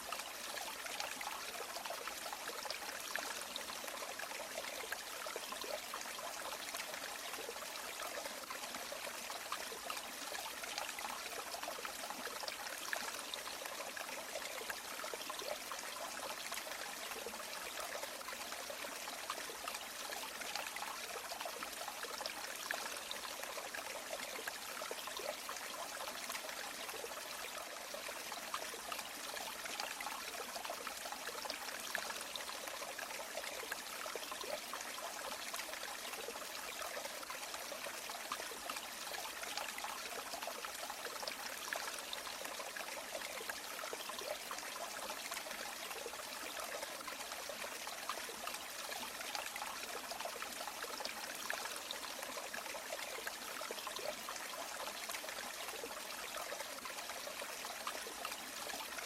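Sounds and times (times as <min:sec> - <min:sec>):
river water flowing over stones: 0:00.0 - 0:59.0.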